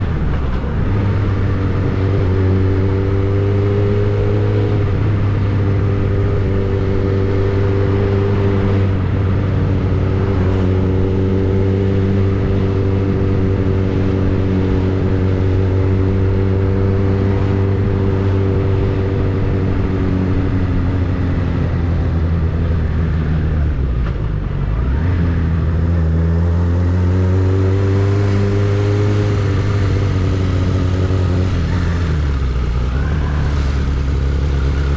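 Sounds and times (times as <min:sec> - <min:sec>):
motorcycle engine and exhaust running: 0:00.0 - 0:34.9.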